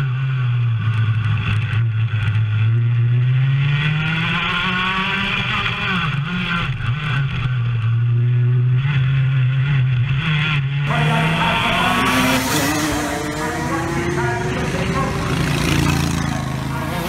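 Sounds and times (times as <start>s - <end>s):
kart engine at full throttle: 0.0s - 17.0s.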